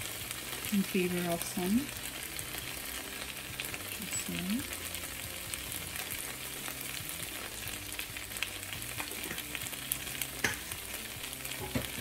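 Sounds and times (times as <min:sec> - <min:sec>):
potato slices sizzling in a pan: 0:00.0 - 0:12.0.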